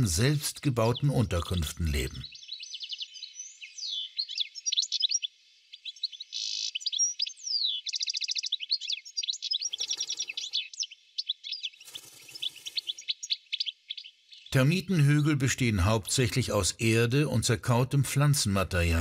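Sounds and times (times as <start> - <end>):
birds singing and calling: 0.0 - 17.4.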